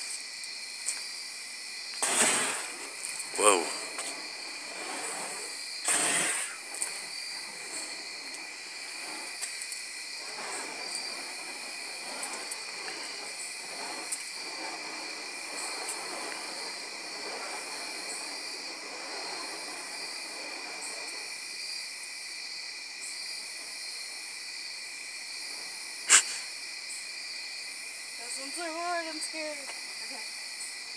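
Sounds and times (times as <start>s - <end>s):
crickets chirping: 0.0s - 30.9s
fire staffs whooshing: 1.9s - 26.7s.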